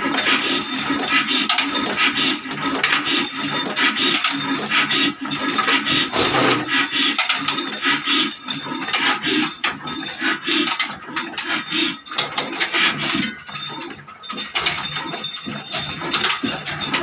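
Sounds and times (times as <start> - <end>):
metallic clinking and clatter: 0.0 - 17.0.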